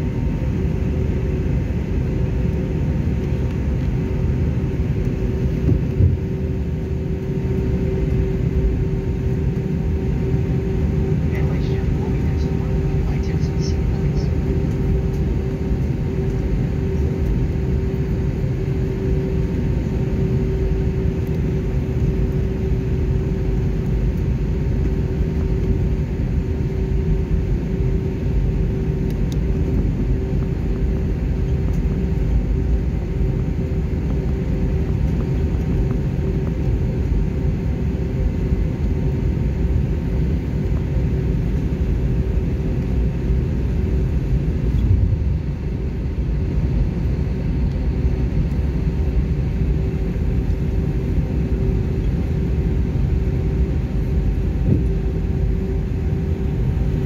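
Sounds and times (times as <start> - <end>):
jet engines low rumble: 0.0 - 57.0
steady hum: 0.0 - 57.0.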